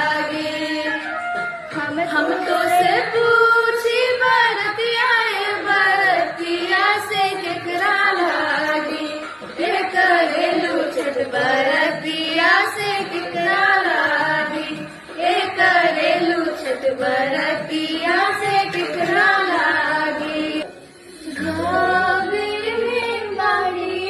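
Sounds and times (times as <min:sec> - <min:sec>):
woman singing devotional folk song: 0:00.0 - 0:24.0.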